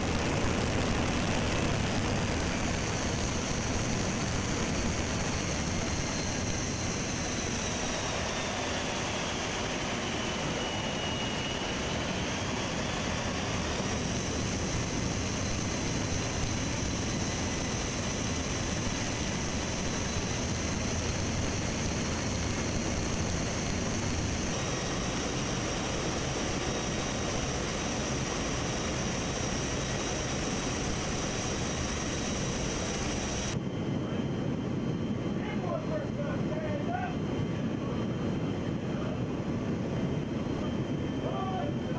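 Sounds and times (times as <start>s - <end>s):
aircraft engine and wind rush: 0.0s - 41.9s
high turbine whine: 0.0s - 41.9s.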